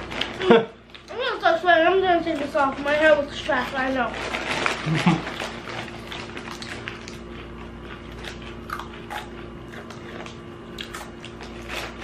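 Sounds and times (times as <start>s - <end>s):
crunching and chewing snacks: 0.0s - 12.0s
faint steady hum: 0.0s - 12.0s.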